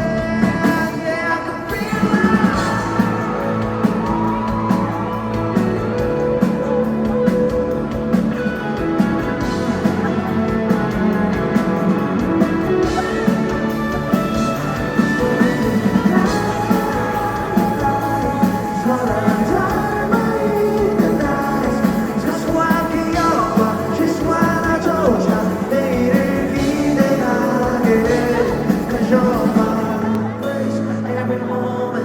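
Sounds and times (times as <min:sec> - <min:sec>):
person singing: 0:00.0 - 0:08.7, 0:12.3 - 0:32.0
live rock band playing: 0:00.0 - 0:31.1
gliding lead guitar notes: 0:02.3 - 0:31.7.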